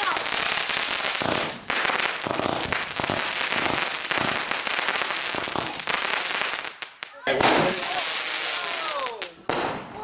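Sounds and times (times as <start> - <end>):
fireworks hissing and crackling: 0.0 - 10.0.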